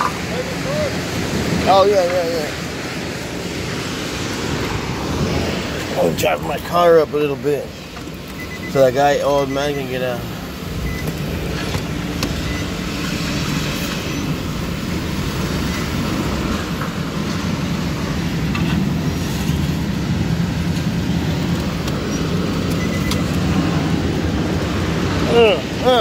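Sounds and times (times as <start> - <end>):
car engine and tyre noise: 0.0 - 26.0.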